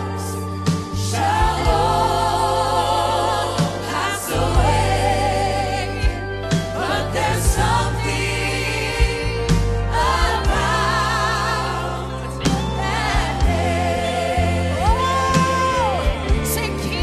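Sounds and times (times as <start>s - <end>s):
bass line: 0.0s - 17.0s
organ: 0.0s - 17.0s.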